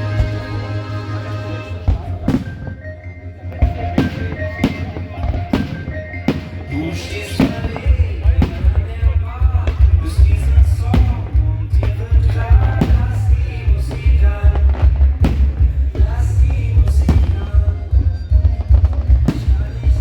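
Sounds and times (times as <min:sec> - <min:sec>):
fireworks bangs: 0:00.0 - 0:02.8, 0:03.5 - 0:20.0
music: 0:00.0 - 0:20.0.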